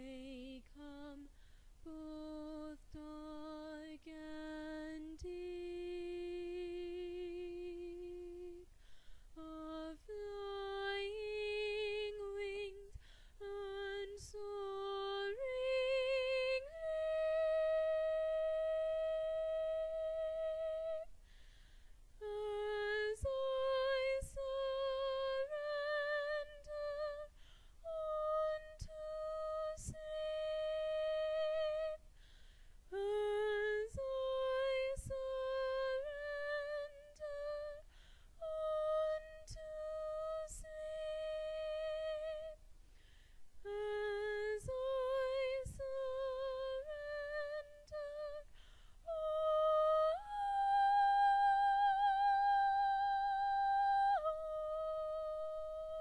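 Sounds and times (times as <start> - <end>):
woman singing soprano: 0.0 - 21.2, 22.2 - 32.2, 32.9 - 42.6, 43.6 - 56.0.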